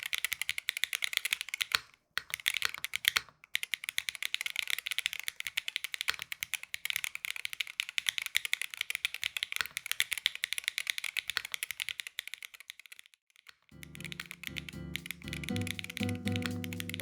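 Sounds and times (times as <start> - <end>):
fast keyboard typing: 0.0 - 13.0, 13.7 - 17.0.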